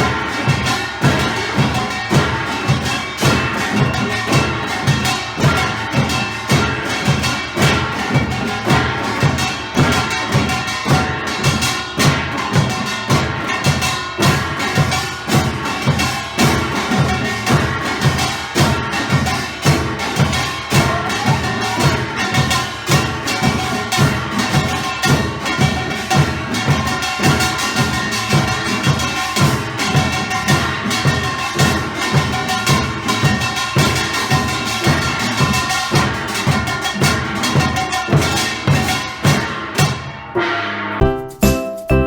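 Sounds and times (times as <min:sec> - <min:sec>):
drums driving rhythm: 0:00.0 - 0:42.0
percussion ensemble playing: 0:00.0 - 0:42.0.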